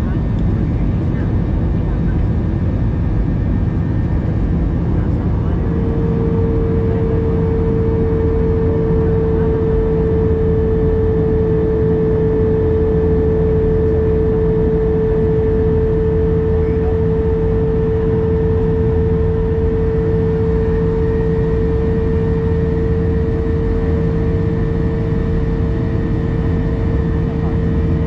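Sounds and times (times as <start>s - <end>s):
jet engines and airflow rushing: 0.0s - 28.0s.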